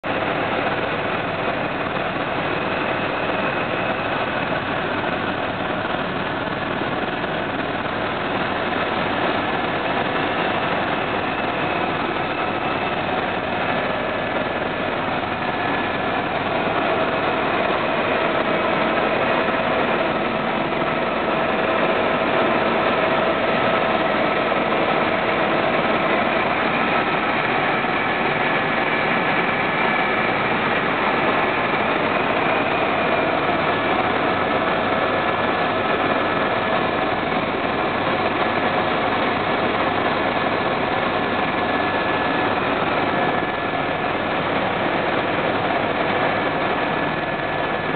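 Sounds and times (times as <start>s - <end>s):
helicopter engine and rotor noise: 0.0s - 47.9s.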